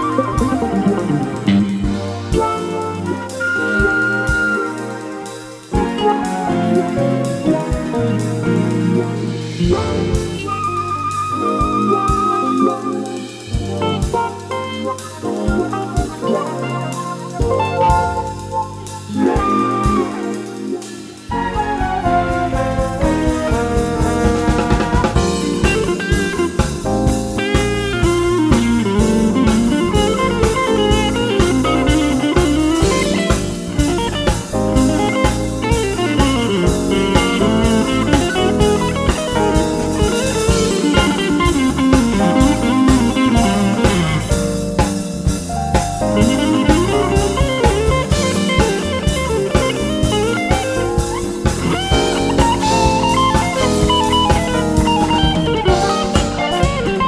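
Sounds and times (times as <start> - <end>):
bass guitar: 0.0 - 57.0
drum kit: 0.0 - 57.0
electric guitar lead sliding notes: 0.0 - 57.0.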